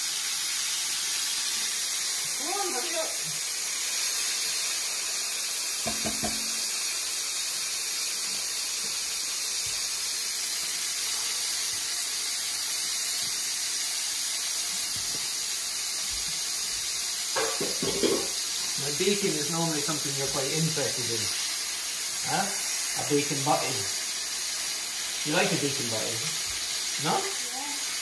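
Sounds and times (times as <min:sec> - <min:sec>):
bacon sizzling in a frying pan: 0:00.0 - 0:28.0.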